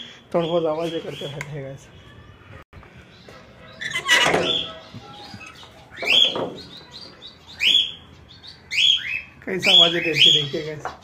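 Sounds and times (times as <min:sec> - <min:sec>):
caged birds calling: 0:00.0 - 0:11.0.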